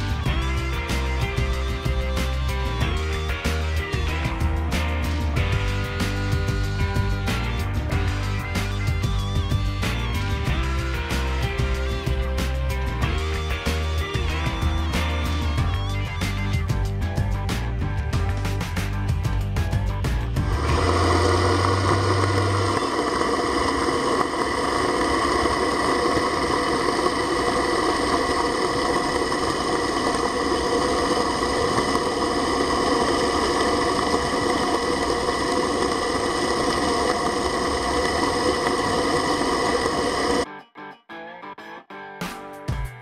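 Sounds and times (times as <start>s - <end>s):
pump mechanical drone with whine: 0.0s - 17.3s, 20.1s - 40.4s.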